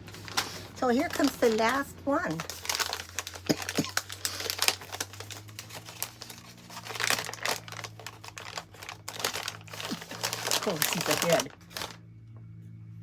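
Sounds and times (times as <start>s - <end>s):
bag crinkling and rustling: 0.0s - 12.0s
faint low hum: 0.0s - 13.0s.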